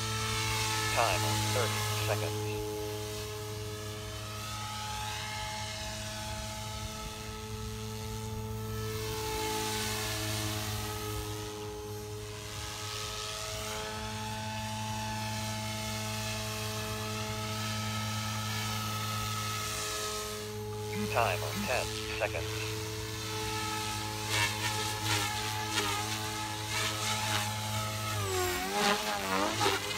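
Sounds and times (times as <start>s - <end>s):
rc helicopter motor whine: 0.0s - 29.9s.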